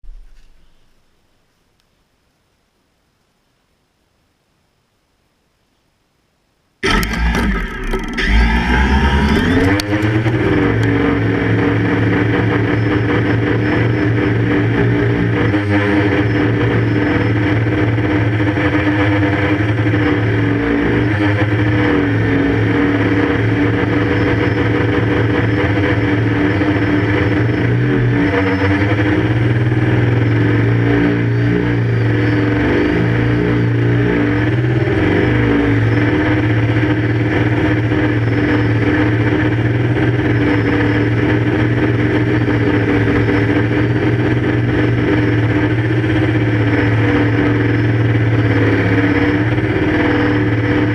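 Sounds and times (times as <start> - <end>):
quadcopter motors humming: 6.8 - 50.9.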